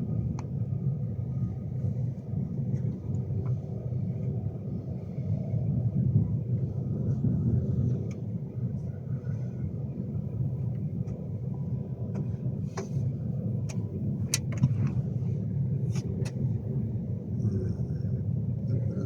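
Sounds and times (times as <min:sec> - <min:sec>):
train rumble inside carriage: 0:00.0 - 0:19.0.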